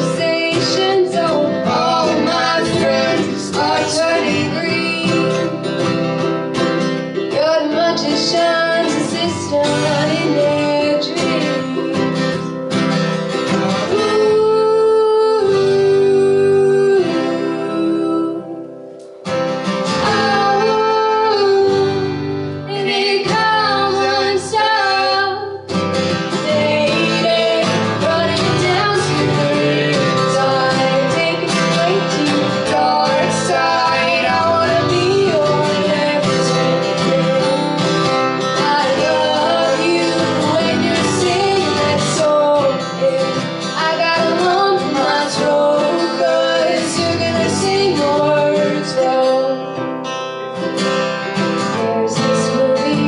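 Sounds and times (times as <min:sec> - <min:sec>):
man and woman singing: 0:00.0 - 0:18.7, 0:19.8 - 0:49.8, 0:51.6 - 0:53.0
strummed acoustic guitars: 0:00.0 - 0:53.0
ukulele: 0:00.0 - 0:53.0.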